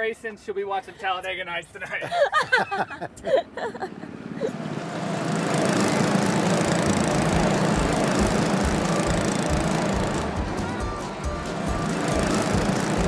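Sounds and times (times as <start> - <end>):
go-kart motors running: 2.2 - 13.0.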